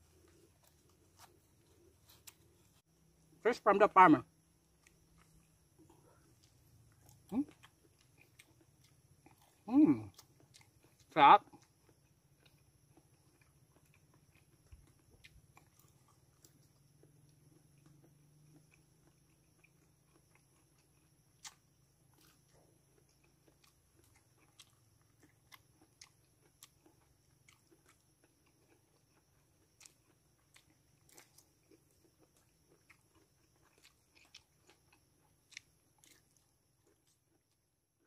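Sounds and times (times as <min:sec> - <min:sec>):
chewing with mouth clicks: 0:04.8 - 0:38.0.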